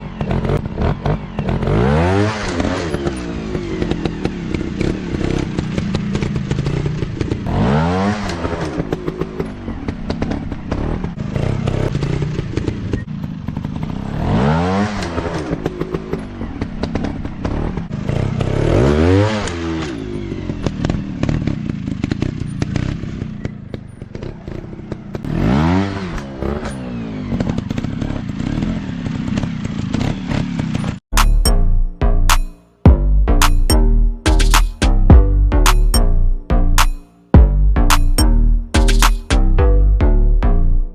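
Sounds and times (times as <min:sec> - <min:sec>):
dirt bike engine revving: 0:00.0 - 0:23.5, 0:24.1 - 0:40.1.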